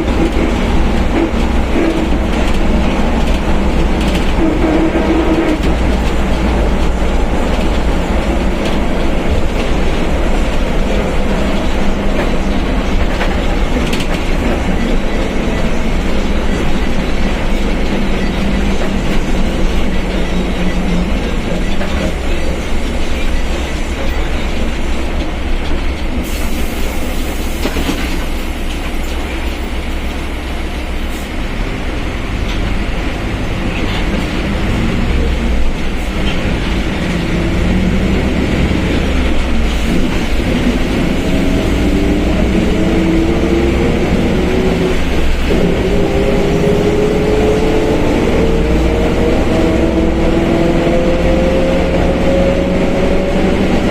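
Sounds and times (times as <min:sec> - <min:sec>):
bus diesel engine running: 0:00.0 - 0:53.9
road noise: 0:00.0 - 0:53.9.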